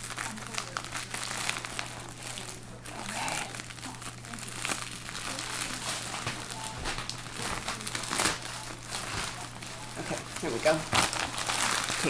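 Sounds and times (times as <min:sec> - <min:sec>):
packaging bag crinkling: 0:00.0 - 0:12.0.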